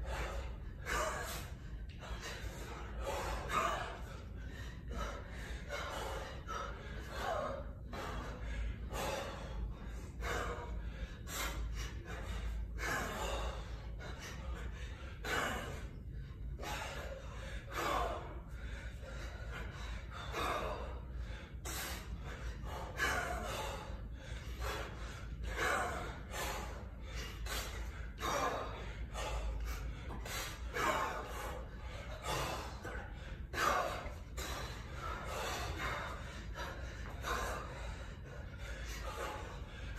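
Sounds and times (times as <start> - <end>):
man breathing hard: 0.0 - 39.9.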